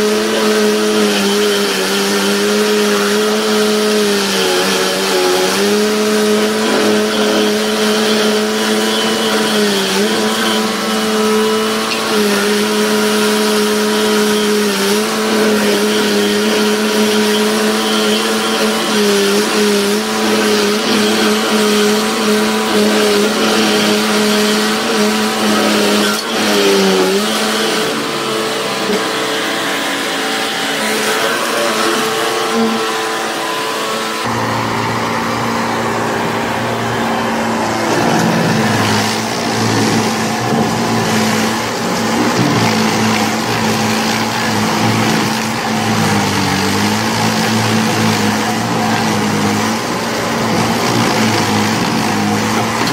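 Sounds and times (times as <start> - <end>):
cutter wheel grinding wood: 0.0 - 52.9
engine running at high speed: 0.0 - 52.9.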